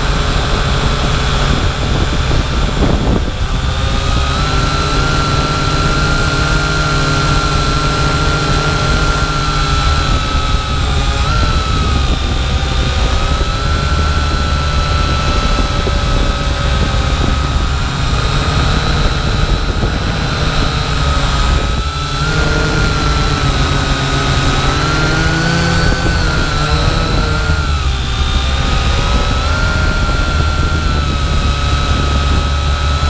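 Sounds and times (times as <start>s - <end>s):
low rumble: 0.0s - 33.0s
quadcopter propellers whining: 0.0s - 33.0s.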